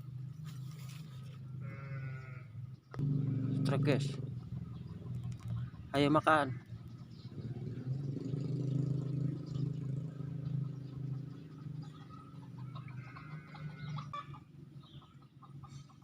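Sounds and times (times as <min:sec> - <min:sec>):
low engine hum: 0:00.0 - 0:15.2.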